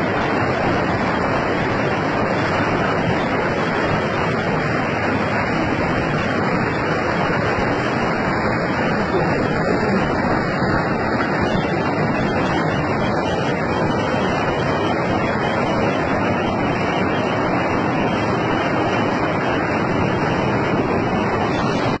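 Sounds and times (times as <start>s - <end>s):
floodwater rushing down a street: 0.0s - 22.0s.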